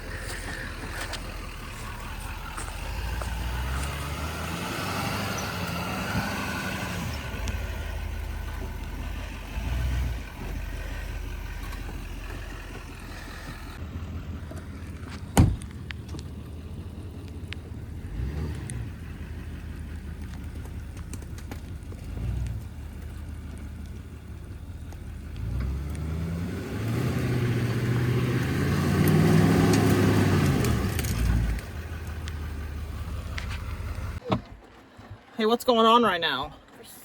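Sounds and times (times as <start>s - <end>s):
truck engine running under load: 0.0s - 35.4s.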